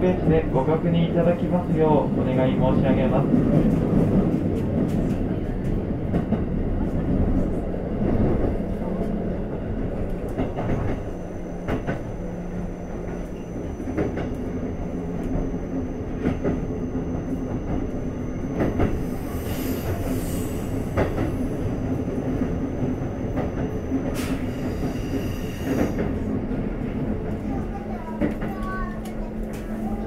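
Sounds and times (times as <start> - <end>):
train wheel and track rumble: 0.0 - 30.0.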